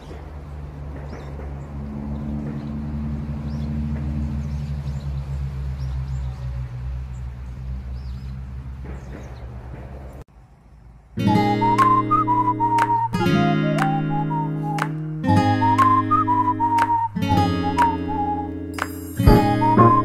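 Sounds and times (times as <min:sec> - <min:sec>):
low engine hum: 0:00.0 - 0:18.7
small birds chirping: 0:00.0 - 0:20.0.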